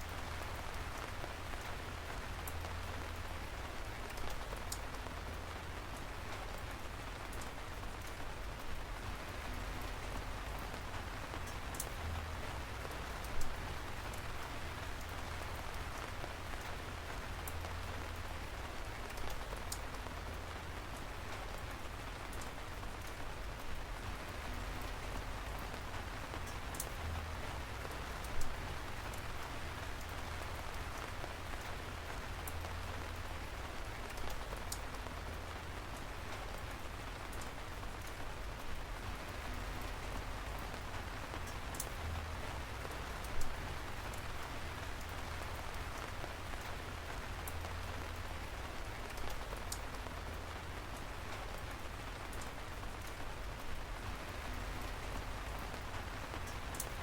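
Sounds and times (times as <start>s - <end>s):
raindrops ticking: 0.0s - 57.0s
steady rain: 0.0s - 57.0s.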